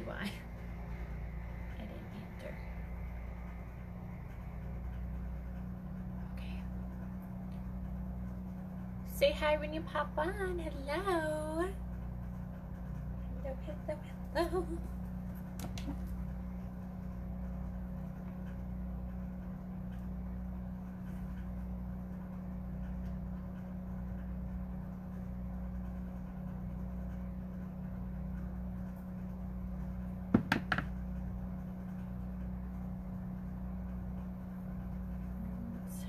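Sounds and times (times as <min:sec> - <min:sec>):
muffled machinery drone: 0:00.0 - 0:36.0.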